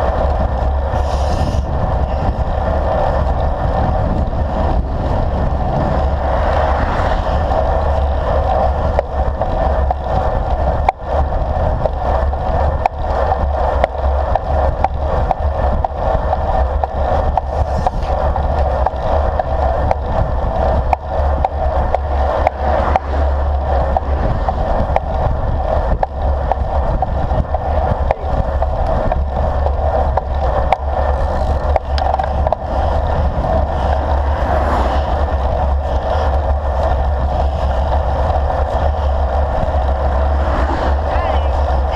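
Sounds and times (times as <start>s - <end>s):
car passing: 0.0s - 16.9s, 17.5s - 41.9s
tyres rolling on asphalt: 0.0s - 41.9s
wind rushing over microphone: 0.0s - 41.9s.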